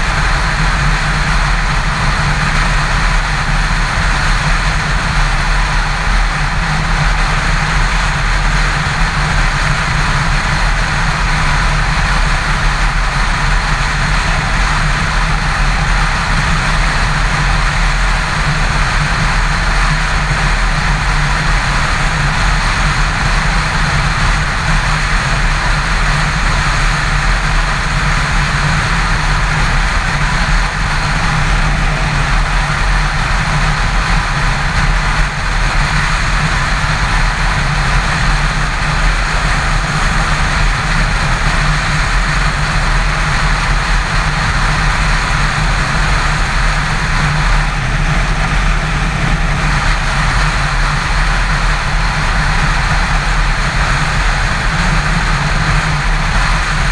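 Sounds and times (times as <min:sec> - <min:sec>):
motorcycle engine cruising: 0:00.0 - 0:56.9
wind and road noise: 0:00.0 - 0:56.9.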